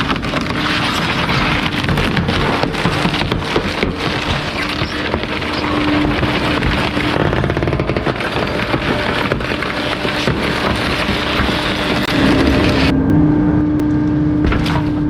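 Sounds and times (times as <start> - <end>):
rapid clicks: 0.0 - 12.9
garbage truck compactor crushing: 0.0 - 13.0, 14.4 - 15.0
steady hum: 0.0 - 15.0.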